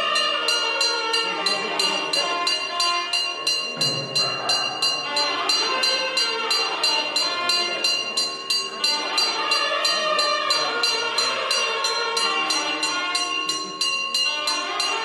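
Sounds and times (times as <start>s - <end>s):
temple bell ringing: 0.0s - 15.0s.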